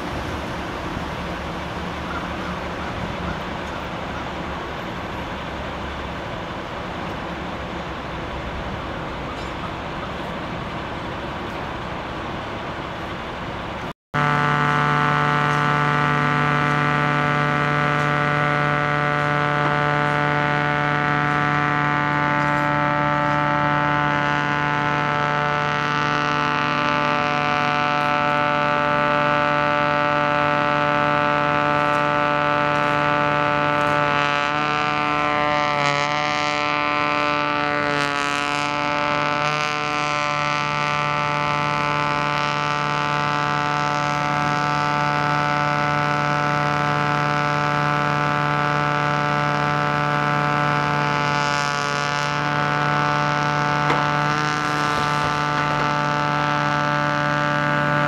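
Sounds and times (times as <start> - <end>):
engine rumble: 0.0 - 58.0
ice blower droning: 0.0 - 58.0.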